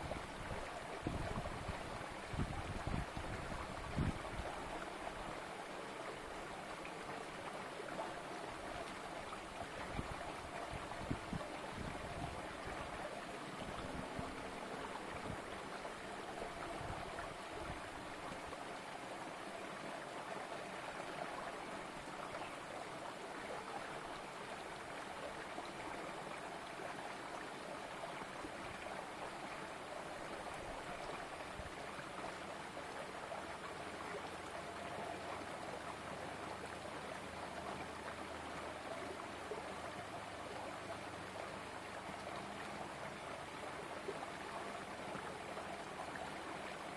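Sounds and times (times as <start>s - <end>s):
stream trickling over rocks: 0.0s - 46.9s.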